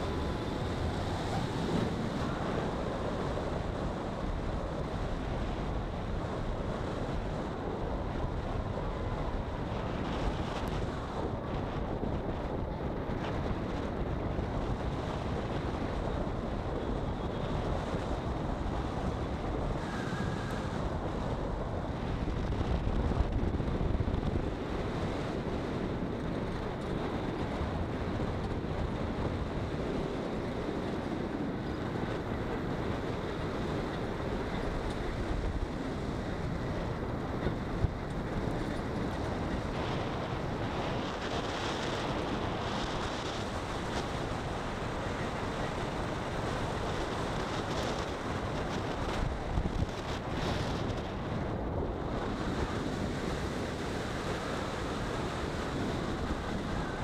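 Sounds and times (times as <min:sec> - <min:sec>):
road and tyre noise: 0:00.0 - 0:57.0
wind rushing over microphone: 0:00.0 - 0:57.0.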